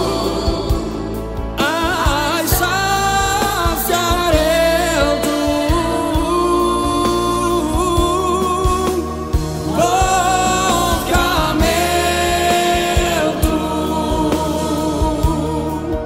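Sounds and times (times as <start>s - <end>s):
band with steady beat: 0.0s - 16.0s
voices singing gospel song: 0.0s - 16.0s.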